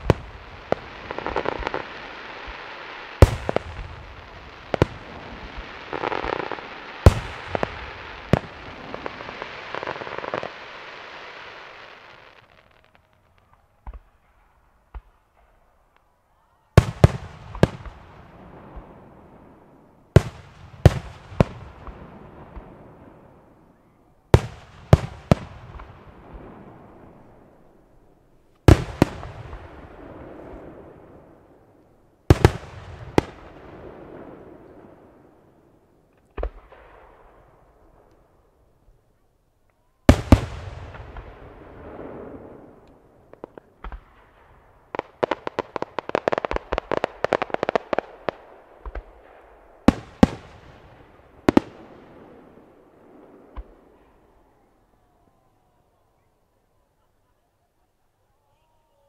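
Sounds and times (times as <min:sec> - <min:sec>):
crackling hiss: 0:00.0 - 0:59.0.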